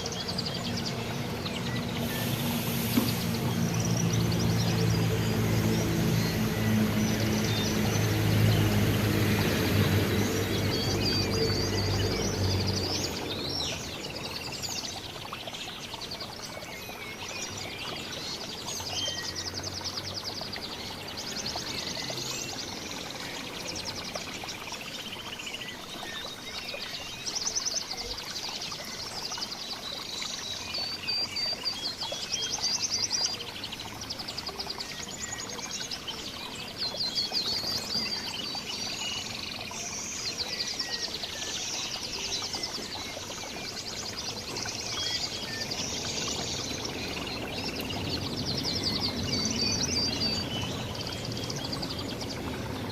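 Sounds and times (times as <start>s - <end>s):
songbirds chirping and singing: 0.0s - 52.9s.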